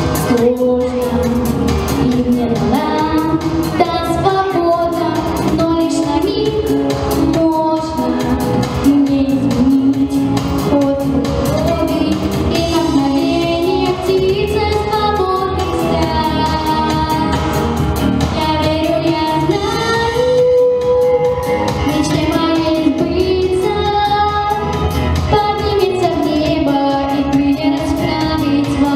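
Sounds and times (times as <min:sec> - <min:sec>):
instrumental accompaniment: 0:00.0 - 0:28.9
girl singing into a microphone: 0:00.2 - 0:17.5, 0:18.3 - 0:28.9.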